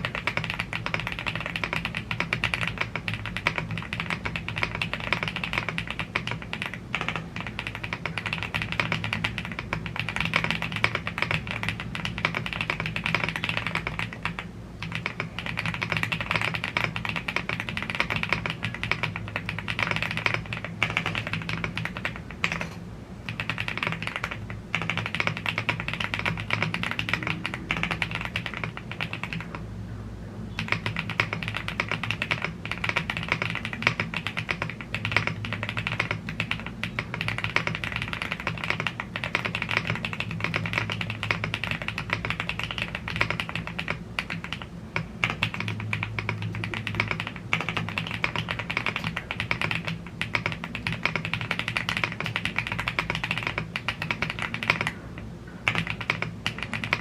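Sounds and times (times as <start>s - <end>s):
fast typing on mechanical keyboard: 0.0s - 29.6s, 30.5s - 57.0s.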